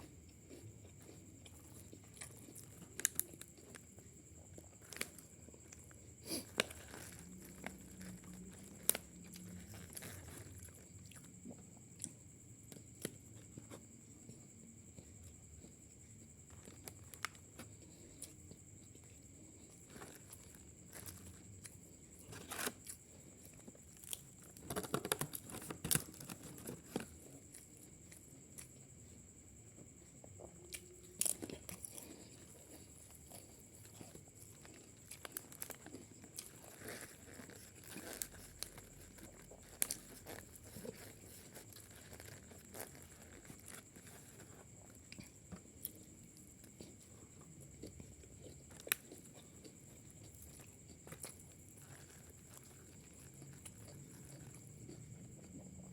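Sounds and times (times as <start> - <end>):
person chewing food: 0.0 - 55.9
food crunches: 0.1 - 28.7, 30.4 - 55.9.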